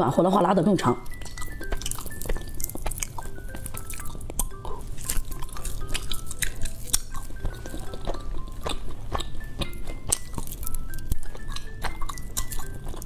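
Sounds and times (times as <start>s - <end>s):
faint background music: 0.0s - 13.0s
sticky candy tacky clicks: 0.9s - 13.0s.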